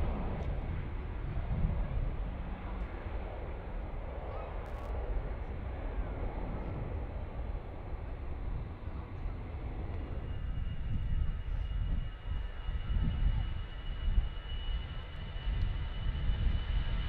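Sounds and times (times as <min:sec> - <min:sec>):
high jet engine whine: 0:00.0 - 0:17.0
jet engine rumble: 0:00.0 - 0:17.0.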